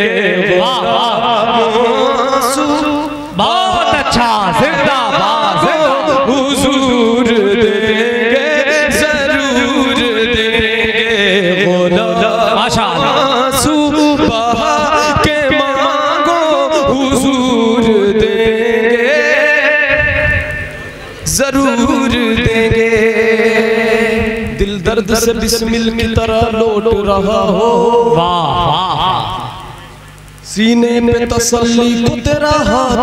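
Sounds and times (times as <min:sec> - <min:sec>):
man singing unaccompanied: 0:00.0 - 0:33.0.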